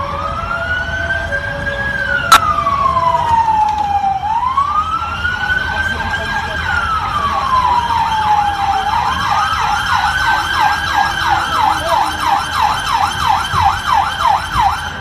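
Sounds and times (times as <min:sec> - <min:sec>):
emergency siren wailing and yelping: 0:00.0 - 0:15.0.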